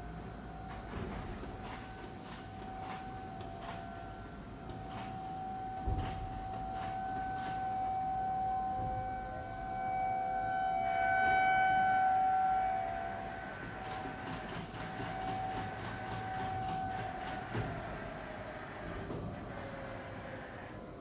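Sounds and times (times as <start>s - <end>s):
warning siren steady tone: 0.0s - 20.7s.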